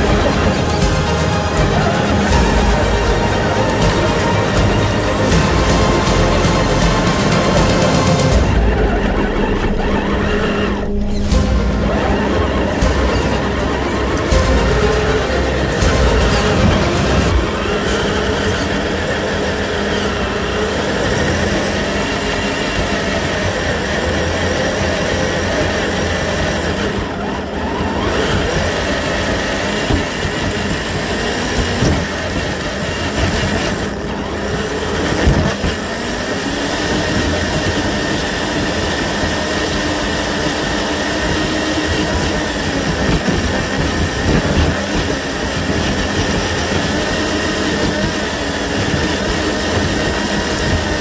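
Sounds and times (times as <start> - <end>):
electric motor whining: 0.0 - 51.0.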